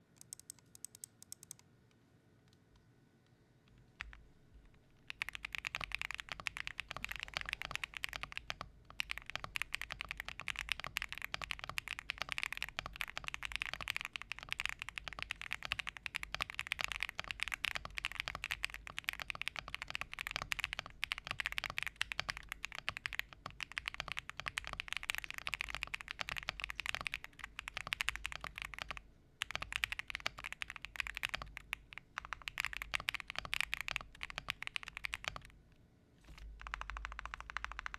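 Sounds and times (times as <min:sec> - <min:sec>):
fast mechanical keyboard typing: 0:05.0 - 0:35.5, 0:36.6 - 0:37.9.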